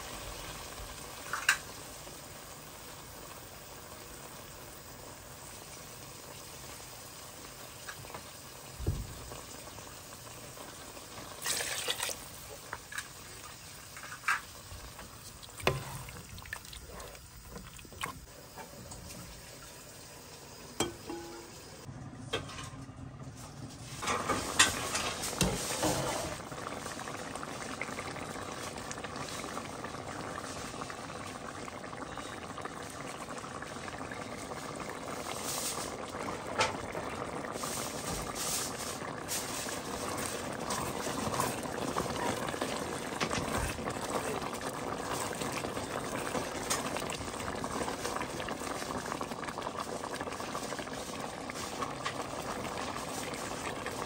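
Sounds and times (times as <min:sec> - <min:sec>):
soup bubbling in a pot: 0:00.0 - 0:21.9, 0:24.0 - 0:54.0.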